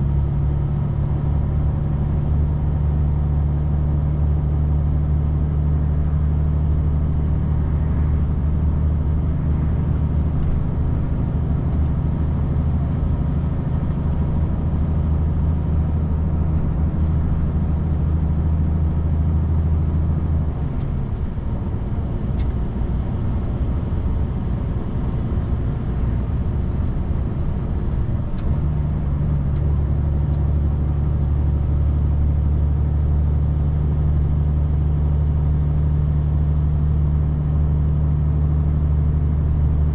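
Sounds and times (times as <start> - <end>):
road and tyre noise: 0.0 - 39.9
vehicle engine drone: 0.0 - 39.9.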